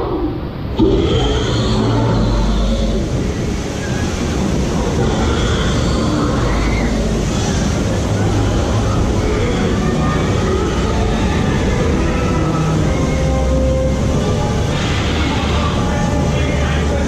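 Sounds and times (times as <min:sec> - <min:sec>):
water rushing down channel: 0:00.3 - 0:17.0.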